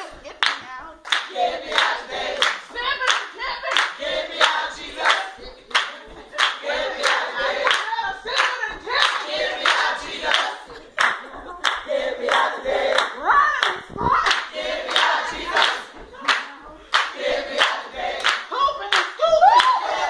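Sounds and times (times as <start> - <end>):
hand clapping in time: 0.0 - 19.8
group of voices singing: 1.1 - 20.0.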